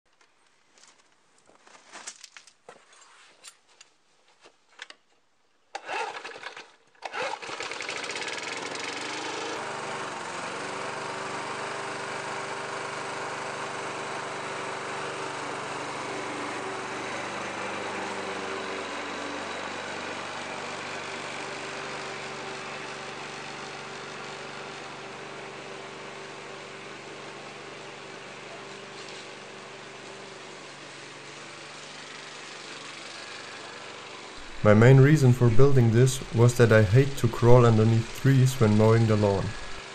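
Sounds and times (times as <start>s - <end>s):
lawn mower engine running: 5.8s - 39.9s.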